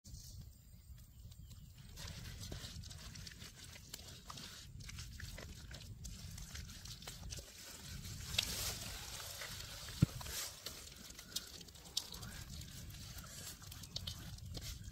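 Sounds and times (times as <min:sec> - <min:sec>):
hands squishing wet marinade: 0:01.2 - 0:14.9.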